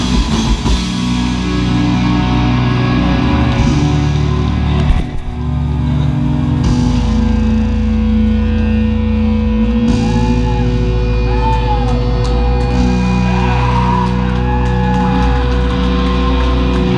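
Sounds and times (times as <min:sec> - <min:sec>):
distorted guitars and bass drone: 0:00.0 - 0:16.9.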